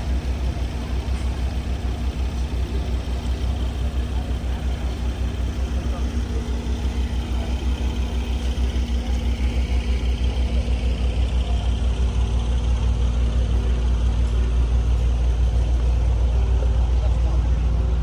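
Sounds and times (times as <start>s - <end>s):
car engine low pulsing rumble: 0.0s - 18.0s.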